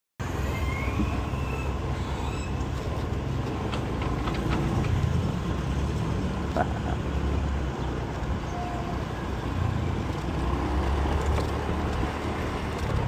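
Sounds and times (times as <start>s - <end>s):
motorcycle engine and road rumble: 0.2s - 13.0s.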